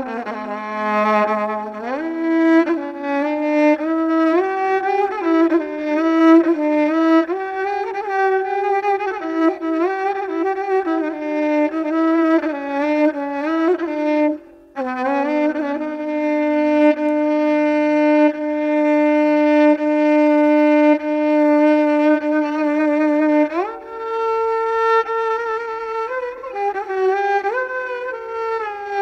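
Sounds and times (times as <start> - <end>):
solo violin: 0.0 - 29.0.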